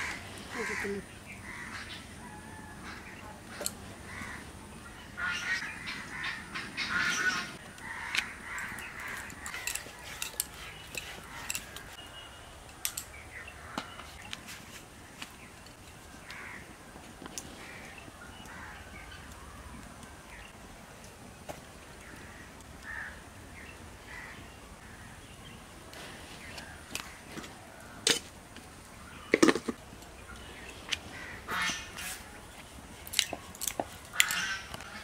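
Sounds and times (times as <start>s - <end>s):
birds calling: 0.0s - 20.6s, 21.9s - 28.0s, 28.8s - 35.0s.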